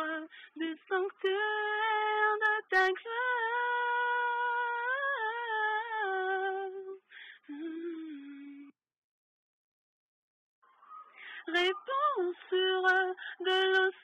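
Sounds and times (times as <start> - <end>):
woman singing unaccompanied: 0.0 - 8.7, 11.3 - 14.0.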